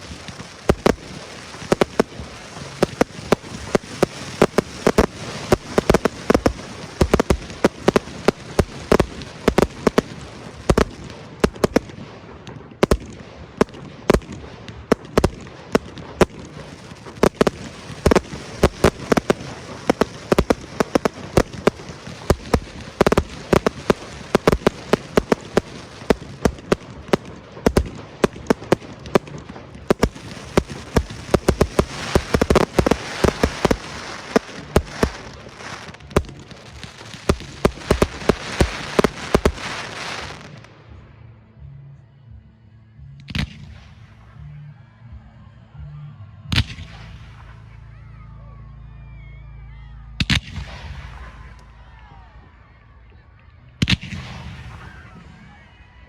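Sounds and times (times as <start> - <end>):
fireworks bursting and crackling: 0.0 - 41.2, 50.2 - 52.6, 53.8 - 55.9.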